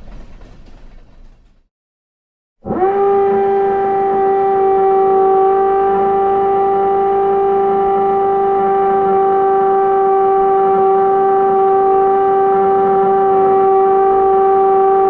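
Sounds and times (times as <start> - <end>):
steam locomotive whistle: 2.6 - 15.0.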